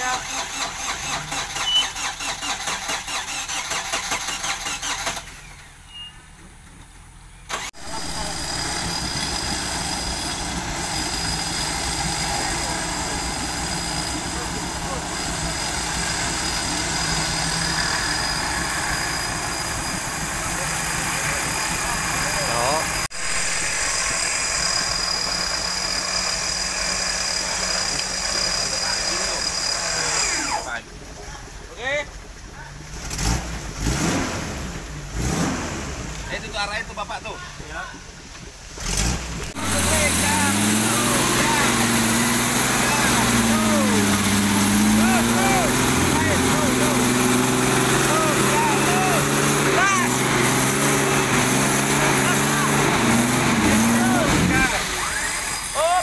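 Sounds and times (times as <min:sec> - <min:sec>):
engine idling: 0:00.0 - 0:33.9, 0:36.0 - 0:56.0.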